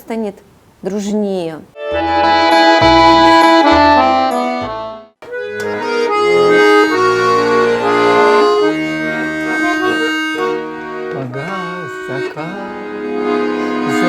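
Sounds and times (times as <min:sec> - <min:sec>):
button accordion playing chords: 0:01.8 - 0:14.0.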